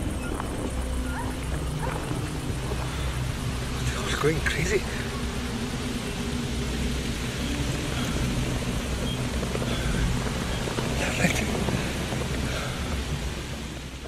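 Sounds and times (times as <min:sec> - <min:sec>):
low hum: 0:00.0 - 0:14.0
steady rushing noise: 0:00.0 - 0:14.0.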